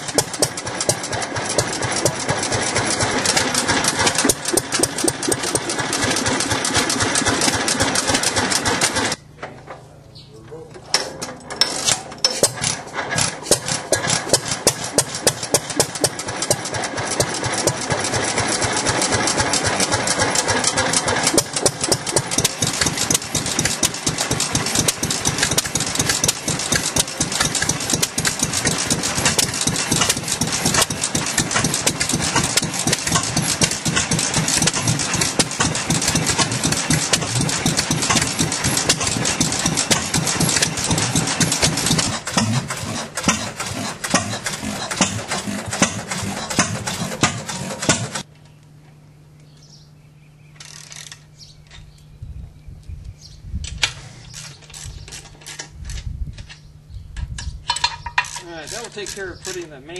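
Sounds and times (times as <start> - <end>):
stationary gas engines running: 0.0 - 48.3, 57.7 - 59.9.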